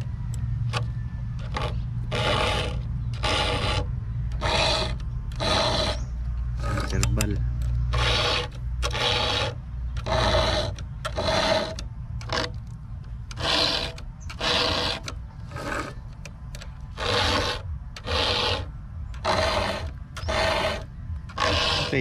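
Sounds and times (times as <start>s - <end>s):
file rasping on chainsaw chain: 1.4s - 12.6s, 13.3s - 16.0s, 16.9s - 22.0s.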